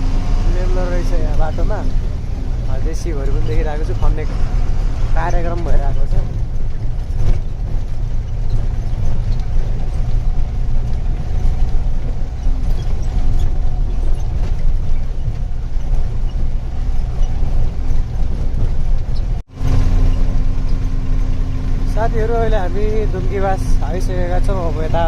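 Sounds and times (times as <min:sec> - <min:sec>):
road noise: 0:00.0 - 0:25.0
truck engine rumbling: 0:00.0 - 0:25.0.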